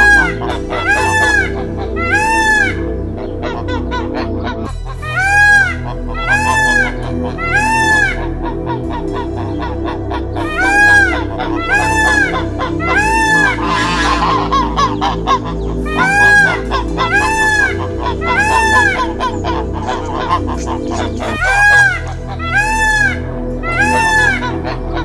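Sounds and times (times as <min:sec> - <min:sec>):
bird honking call: 0:00.0 - 0:25.0
soft background music: 0:00.0 - 0:25.0.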